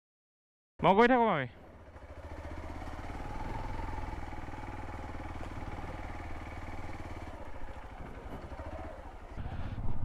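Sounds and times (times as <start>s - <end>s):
motorcycle engine running: 1.5s - 10.0s.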